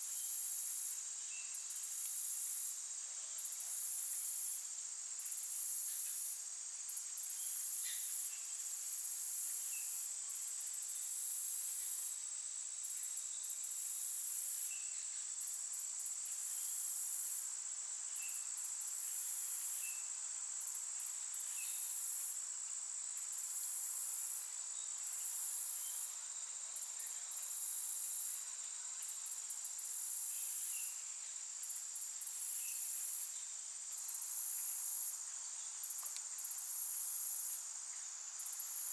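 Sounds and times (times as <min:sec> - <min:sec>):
high insect drone: 0:00.0 - 0:38.9
insects trilling: 0:00.0 - 0:38.9.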